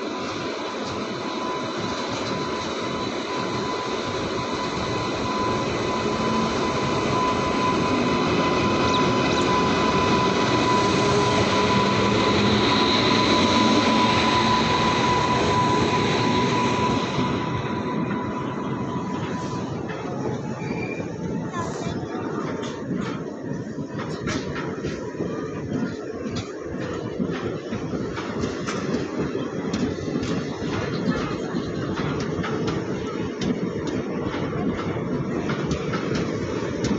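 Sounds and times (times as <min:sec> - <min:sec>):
train rumbling along track: 0:00.0 - 0:36.9.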